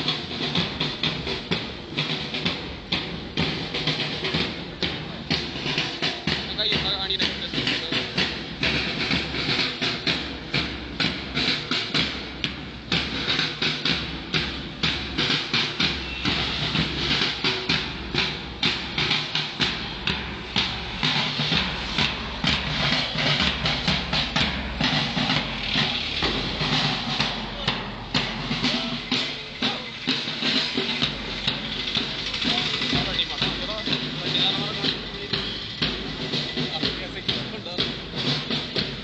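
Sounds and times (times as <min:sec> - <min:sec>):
marching drums: 0:00.0 - 0:39.0.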